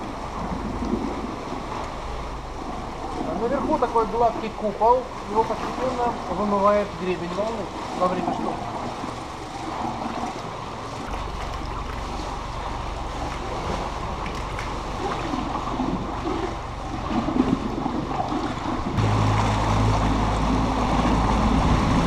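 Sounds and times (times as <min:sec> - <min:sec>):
motorboat engine humming: 0:00.0 - 0:22.0
sea waves splashing: 0:00.0 - 0:22.0.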